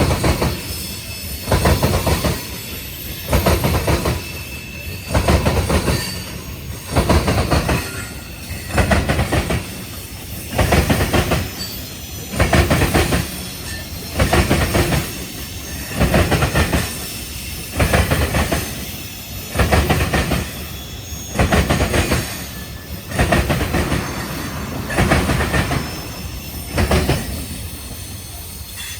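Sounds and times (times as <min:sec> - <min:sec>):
freight train wheels clattering: 0:00.0 - 0:28.9
train rumble: 0:00.0 - 0:28.9.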